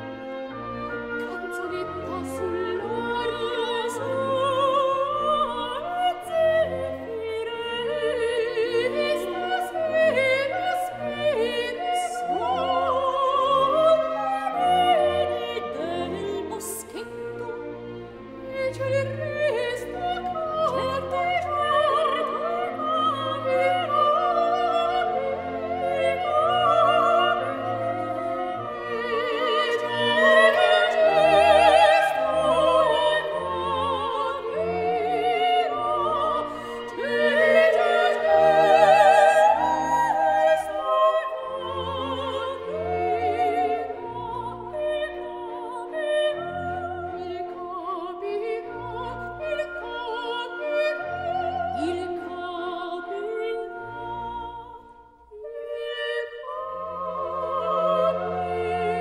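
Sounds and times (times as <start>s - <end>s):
operatic singing with orchestra: 0.0s - 59.0s.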